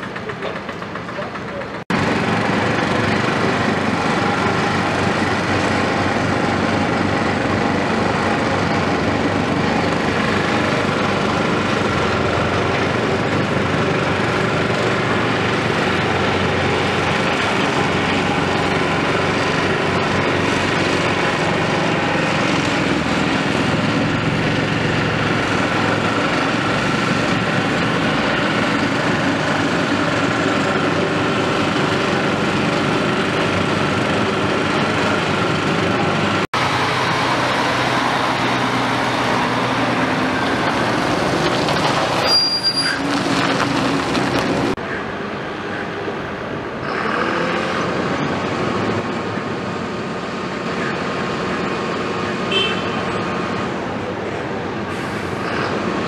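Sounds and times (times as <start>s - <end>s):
excavator running: 0.0s - 56.0s.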